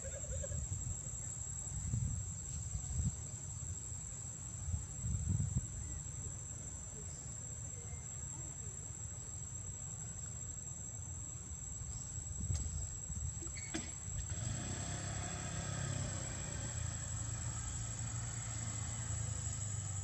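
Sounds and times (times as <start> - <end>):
high insect whine: 0.0 - 20.0.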